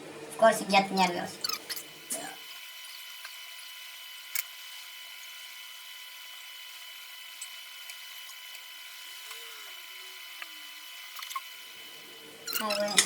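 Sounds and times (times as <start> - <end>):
high-pitched electrical whine: 0.9 - 13.0.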